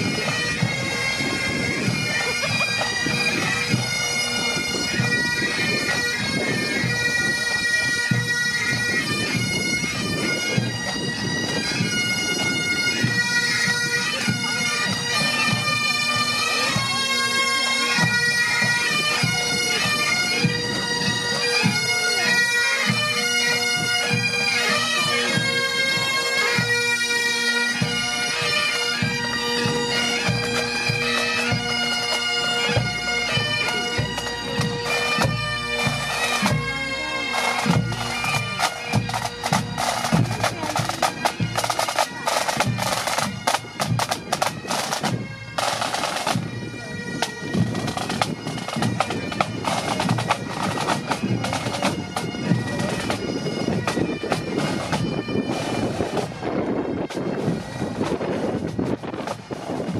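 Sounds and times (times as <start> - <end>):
bagpipes playing a march: 0.0 - 59.9.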